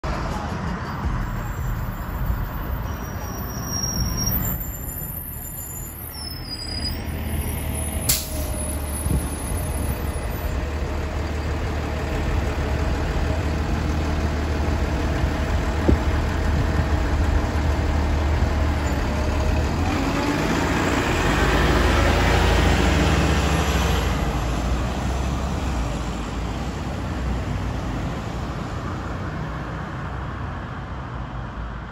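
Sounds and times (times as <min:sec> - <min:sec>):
bus engine running: 0:00.0 - 0:31.9.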